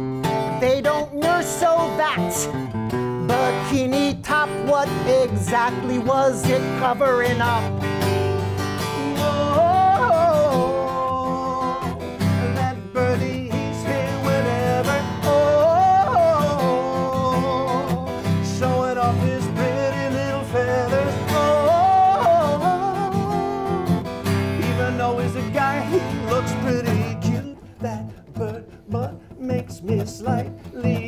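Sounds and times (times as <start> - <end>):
acoustic guitar: 0.0 - 31.0
man singing: 0.2 - 31.0.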